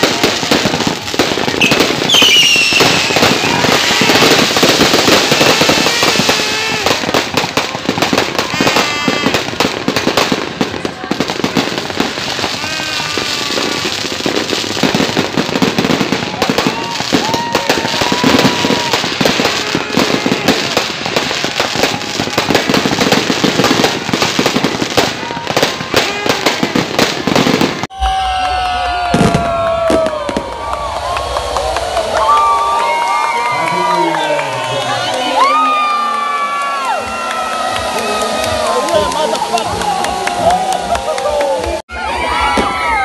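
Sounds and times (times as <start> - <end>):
crowd calling out and cheering: 0.0 - 43.0
fireworks crackling and banging: 0.0 - 43.0
people's voices: 0.0 - 43.0.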